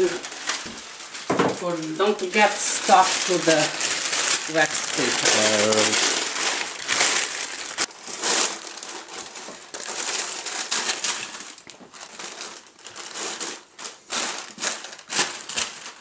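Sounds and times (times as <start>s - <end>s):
wax paper crinkling: 0.0s - 16.0s.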